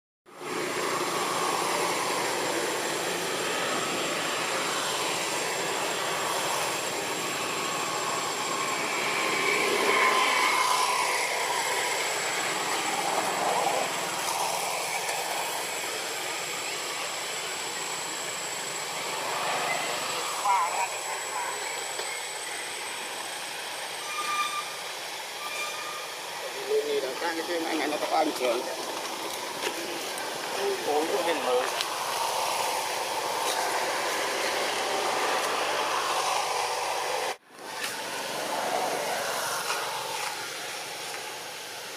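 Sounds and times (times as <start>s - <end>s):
rushing traffic noise: 0.3s - 41.9s
thin high whine: 0.4s - 41.9s.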